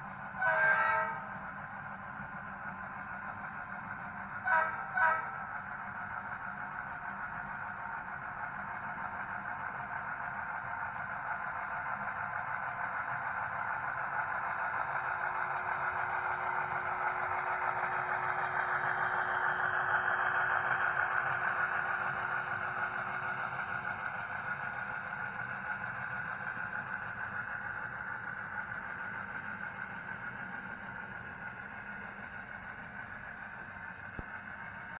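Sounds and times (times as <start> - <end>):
model train rumbling on track: 0.0 - 35.0.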